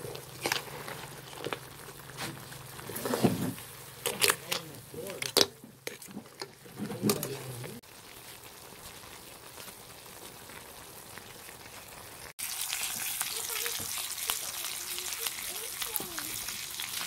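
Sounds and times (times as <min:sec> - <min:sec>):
fish frying in hot oil: 0:00.0 - 0:17.0
food sizzling quietly: 0:00.0 - 0:17.0.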